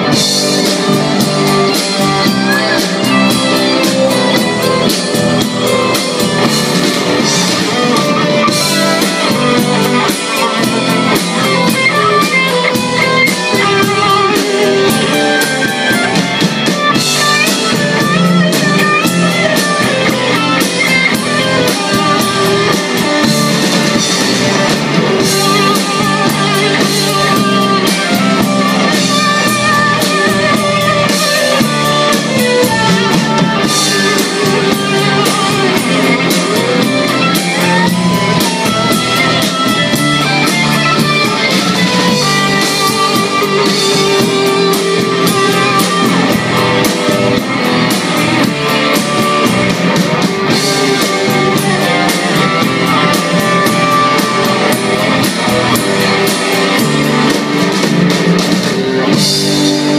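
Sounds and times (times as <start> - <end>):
drum kit beat: 0.0 - 59.9
electric guitars: 0.0 - 59.9.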